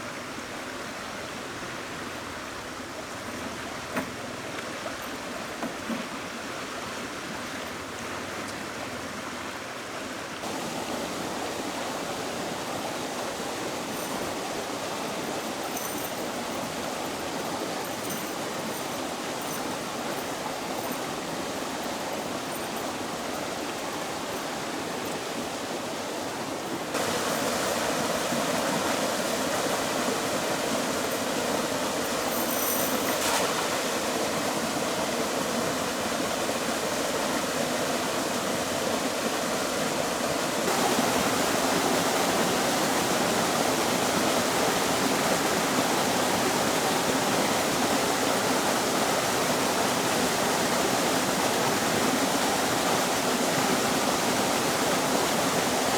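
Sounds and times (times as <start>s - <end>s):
flowing water rushing: 0.0s - 55.9s.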